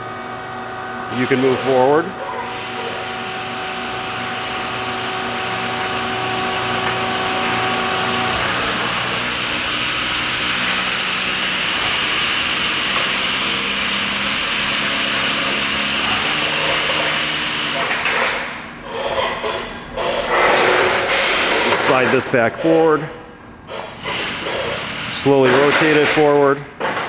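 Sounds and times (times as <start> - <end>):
rotary door clamp mechanical hum: 1.1 - 27.0.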